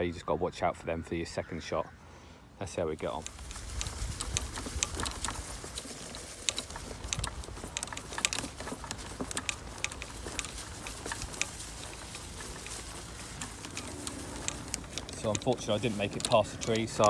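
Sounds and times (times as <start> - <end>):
wind rumbling on microphone: 3.2 - 17.0.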